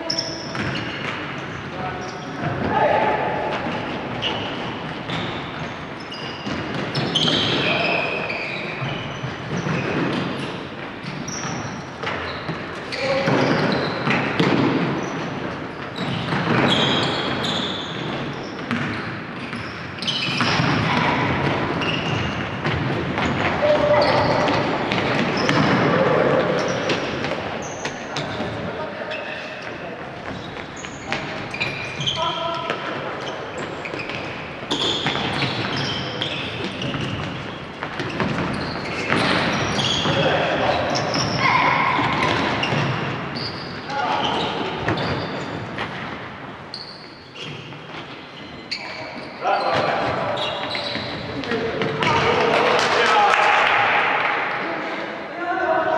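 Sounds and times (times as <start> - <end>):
shoe squeaks on wooden floor: 0.0 - 14.4, 15.0 - 46.1, 46.7 - 52.2.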